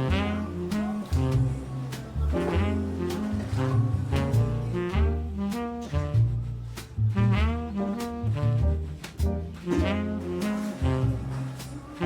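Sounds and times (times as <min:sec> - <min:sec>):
instrumental jazz music: 0:00.0 - 0:12.0
plucked bass notes: 0:00.0 - 0:12.0.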